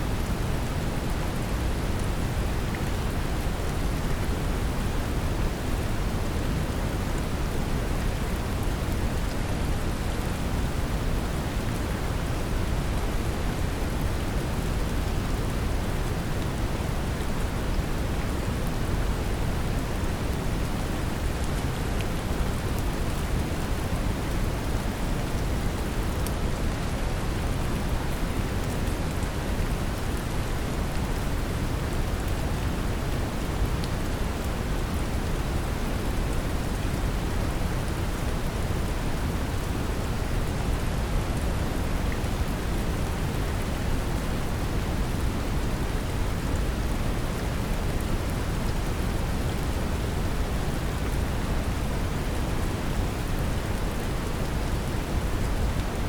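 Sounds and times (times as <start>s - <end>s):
gentle rain patter: 0.0s - 56.0s.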